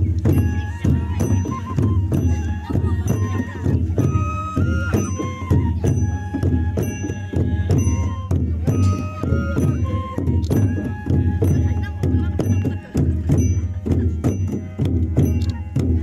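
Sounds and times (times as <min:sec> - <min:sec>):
bamboo flutes playing melody: 0:00.0 - 0:16.0
barrel drums beaten by hand: 0:00.0 - 0:16.0.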